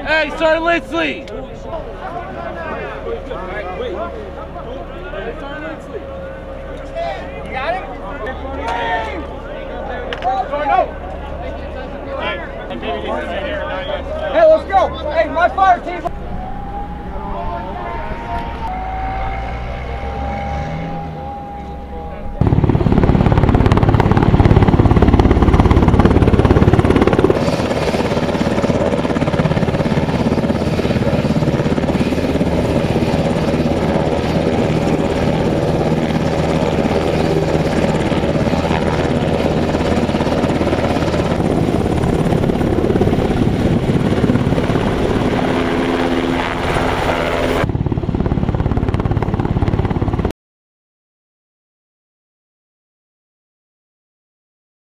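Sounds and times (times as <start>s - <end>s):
helicopter rotor and turbine noise: 0.0s - 50.3s.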